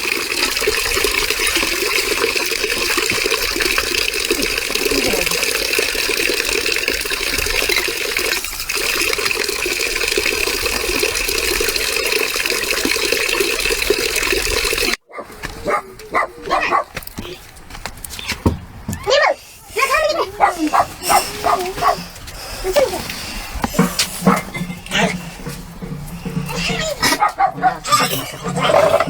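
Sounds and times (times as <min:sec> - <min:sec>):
water running: 0:00.0 - 0:15.8, 0:18.9 - 0:29.0.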